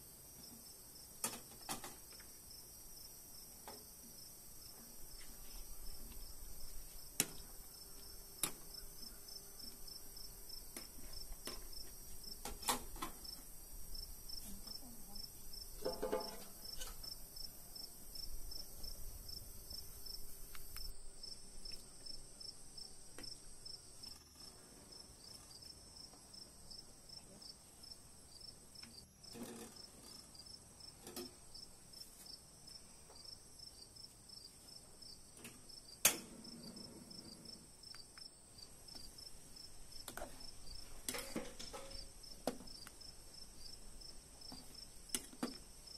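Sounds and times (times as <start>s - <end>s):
insects chirping: 0.3s - 45.9s.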